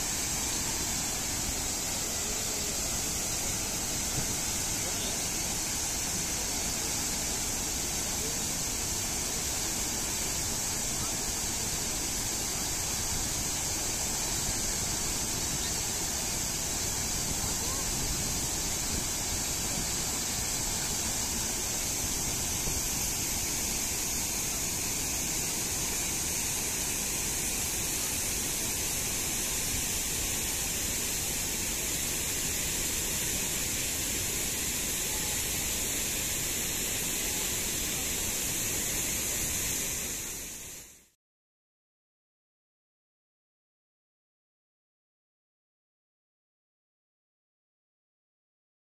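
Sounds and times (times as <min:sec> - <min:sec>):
waterfall rushing: 0:00.0 - 0:40.8.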